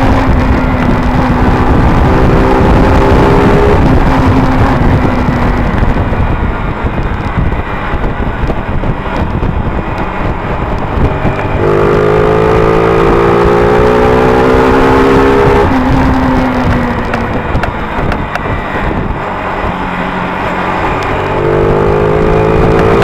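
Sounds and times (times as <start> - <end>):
motorcycle engine accelerating: 0.0 - 23.0
wind rushing over microphone: 0.0 - 23.0.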